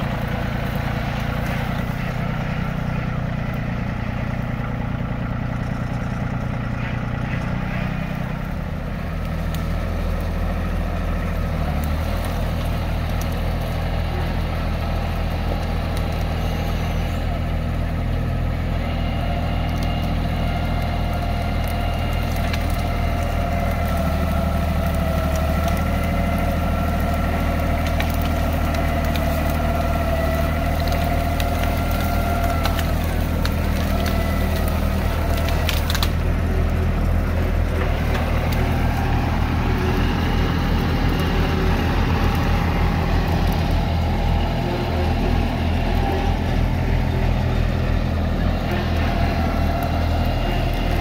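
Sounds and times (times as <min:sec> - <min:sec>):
branches cracking and snapping: 0:00.0 - 0:51.0
tractor engine running: 0:00.0 - 0:51.0.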